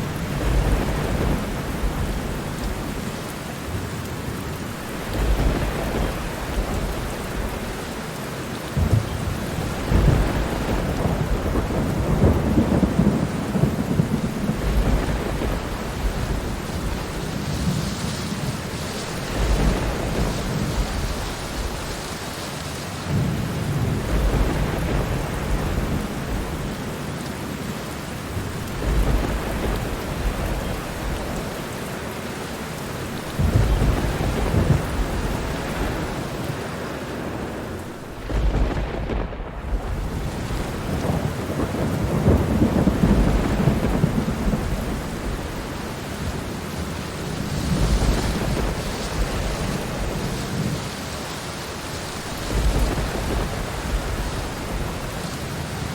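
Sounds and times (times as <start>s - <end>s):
thunder rolling: 0.0s - 3.4s, 4.3s - 8.1s, 8.8s - 22.4s, 23.1s - 27.1s, 27.9s - 31.8s, 33.0s - 51.0s, 51.7s - 55.9s
heavy rain: 0.0s - 55.9s.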